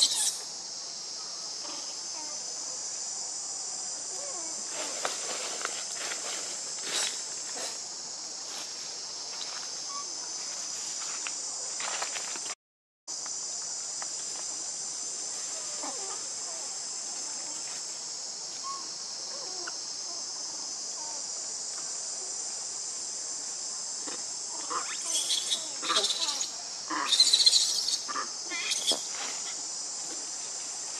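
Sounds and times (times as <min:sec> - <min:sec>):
insects chorus in forest: 0:00.0 - 0:30.9.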